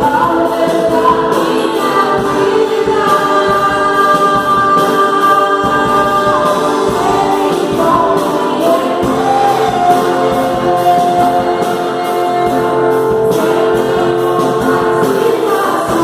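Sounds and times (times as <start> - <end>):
choir singing gospel: 0.0 - 16.0.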